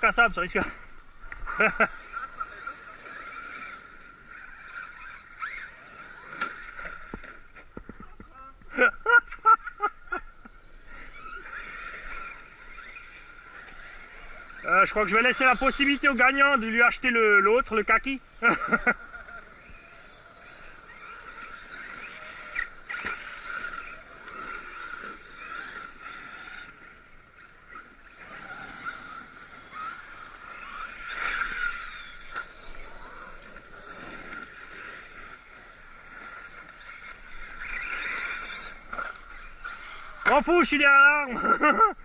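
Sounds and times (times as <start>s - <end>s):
rc car motor whine: 0.0s - 42.0s.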